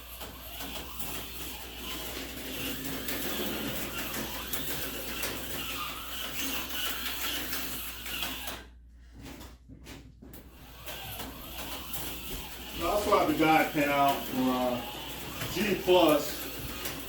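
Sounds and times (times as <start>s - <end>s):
wheels clattering on rails: 0.0s - 8.5s, 10.8s - 17.0s
slot car motor whirring: 0.0s - 8.7s, 10.5s - 17.0s.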